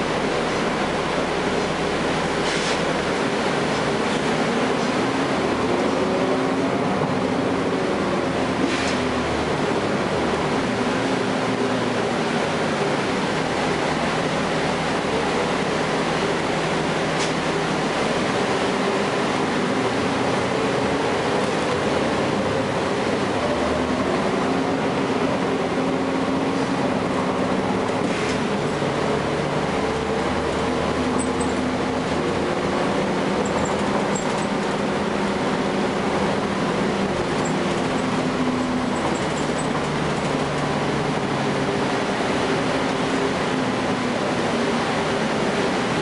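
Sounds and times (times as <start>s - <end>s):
bus diesel engine under load: 0.0s - 46.0s
road and body noise: 0.0s - 46.0s.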